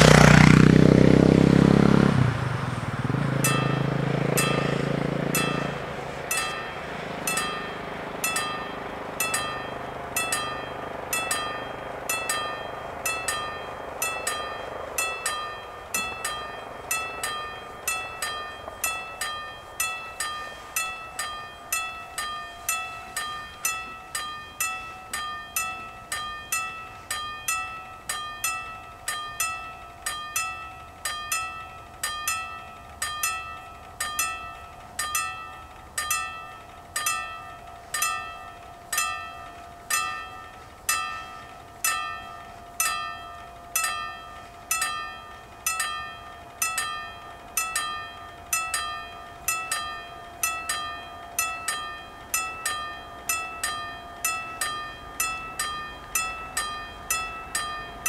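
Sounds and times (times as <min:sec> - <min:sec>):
level-crossing warning bells: 0:00.0 - 0:58.0.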